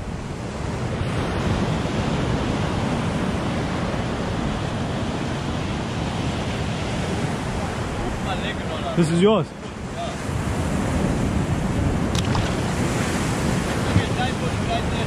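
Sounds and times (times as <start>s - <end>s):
ocean surf breaking on rocks: 0.0s - 15.0s.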